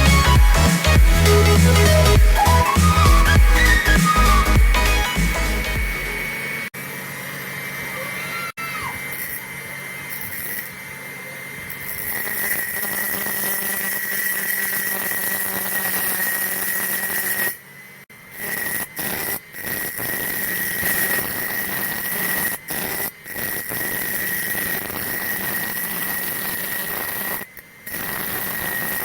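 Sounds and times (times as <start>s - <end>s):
angle grinder high-pitched whine: 0.0s - 29.0s.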